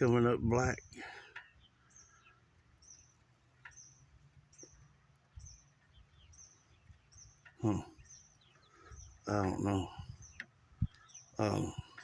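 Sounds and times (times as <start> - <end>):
small bird chirping: 0.7 - 12.0.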